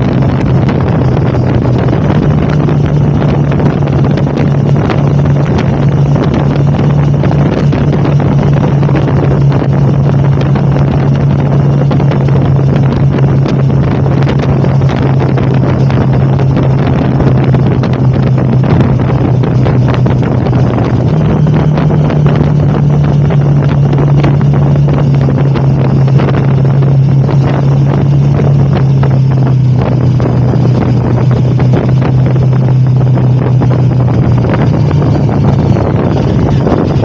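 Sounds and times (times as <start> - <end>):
motorcycle engine running: 0.0 - 37.0
wind buffeting microphone: 0.0 - 37.0.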